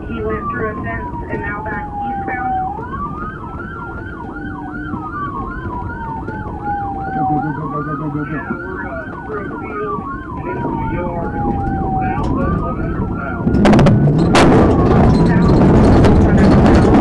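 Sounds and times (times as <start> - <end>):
police siren wailing: 0.0 - 17.0
police siren yelping: 0.0 - 17.0.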